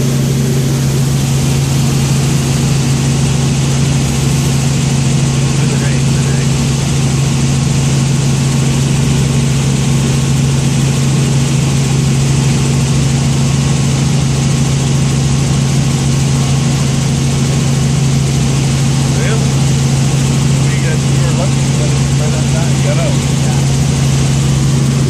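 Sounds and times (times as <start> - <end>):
helicopter rotor and engine drone: 0.0 - 25.0.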